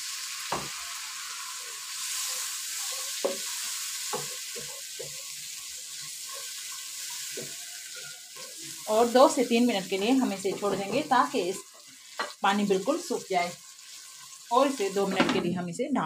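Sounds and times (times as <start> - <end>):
masala sizzling in hot oil: 0.0 - 15.4.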